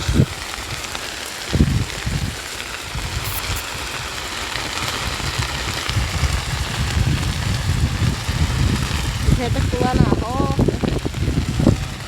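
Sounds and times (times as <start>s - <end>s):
marsh vegetation burning crackle: 0.0s - 12.0s.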